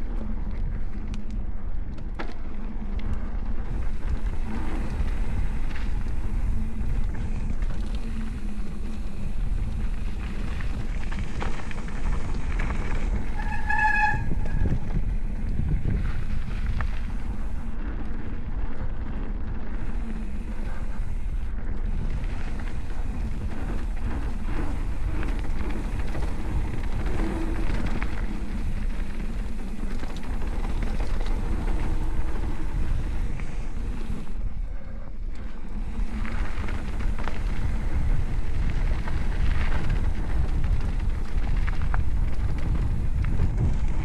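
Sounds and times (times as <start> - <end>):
mountain bike rattling on dirt: 0.0 - 44.0
wind rushing over microphone: 0.0 - 44.0.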